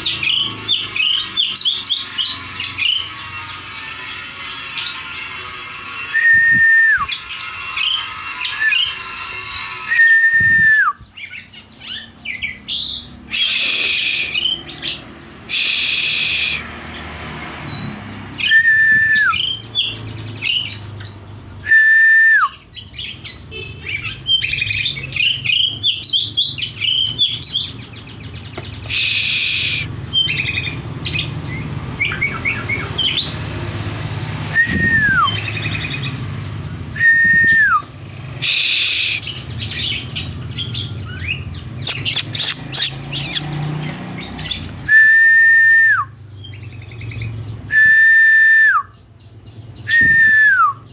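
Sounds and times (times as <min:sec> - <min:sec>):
bird whistling and chirping: 0:00.0 - 0:03.3, 0:06.1 - 0:09.2, 0:09.8 - 0:16.8, 0:17.6 - 0:36.2, 0:36.9 - 0:50.9
harsh rasping bird calls: 0:00.0 - 0:21.8, 0:22.4 - 0:45.1.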